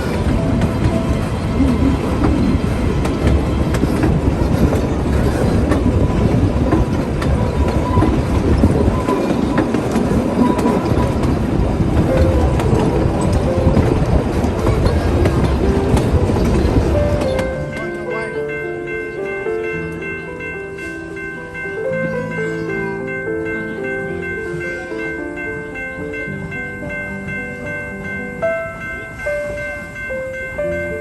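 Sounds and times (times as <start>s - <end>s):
rail clicks: 0.0s - 31.0s
train carriages rumbling on rails: 0.0s - 31.0s.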